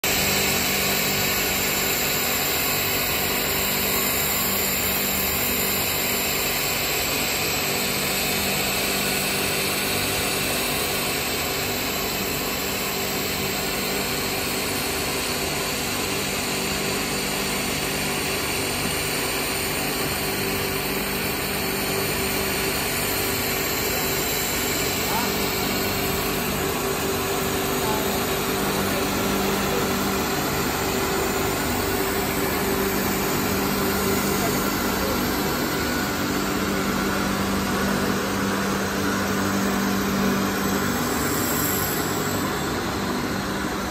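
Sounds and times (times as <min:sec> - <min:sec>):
machine mechanical drone: 0:00.1 - 0:43.9.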